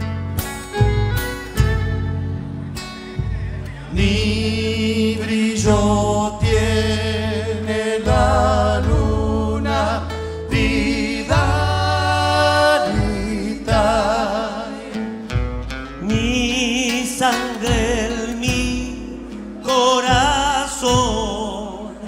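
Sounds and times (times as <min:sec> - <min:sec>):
guitar and bass: 0:00.0 - 0:22.0
male voices singing together: 0:03.8 - 0:22.0.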